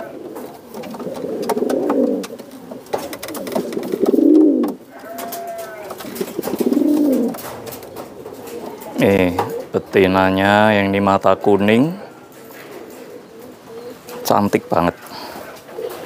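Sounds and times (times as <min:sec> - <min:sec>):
pigeon cooing: 0:00.0 - 0:16.0.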